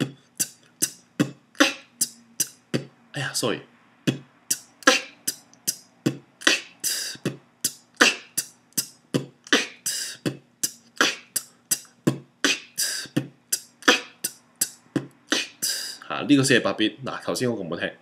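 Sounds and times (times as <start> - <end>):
vocal beatboxing: 0.0 - 3.4, 4.0 - 16.1.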